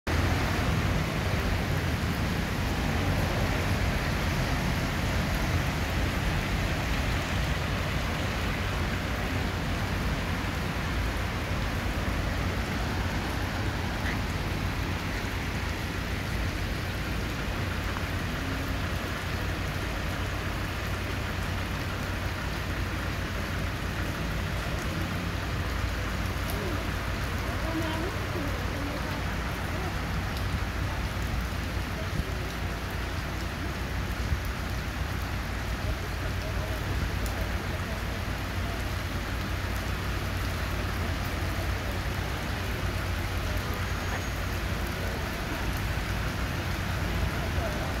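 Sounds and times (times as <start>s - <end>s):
heavy rain on street: 0.0s - 48.0s.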